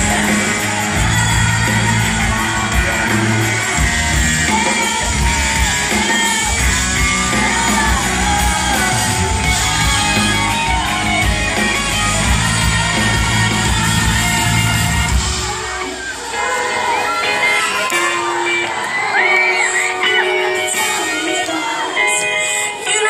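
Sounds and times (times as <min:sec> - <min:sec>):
crowd yelling along: 0:00.0 - 0:23.0
lead singer singing: 0:00.0 - 0:23.0
live pop-rock band playing: 0:00.0 - 0:23.0.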